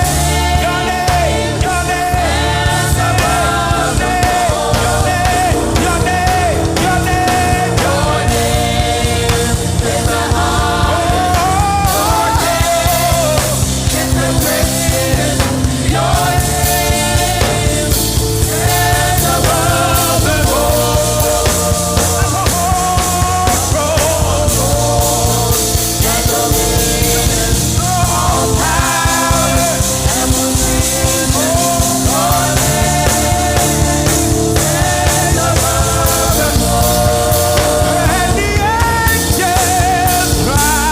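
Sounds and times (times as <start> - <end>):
band with drums and bass: 0.0 - 40.9
voices singing: 0.0 - 40.9.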